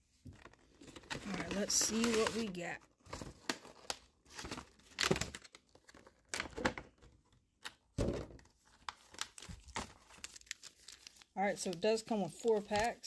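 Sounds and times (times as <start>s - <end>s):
packaging rustling and tearing: 0.3s - 7.8s, 8.4s - 13.0s.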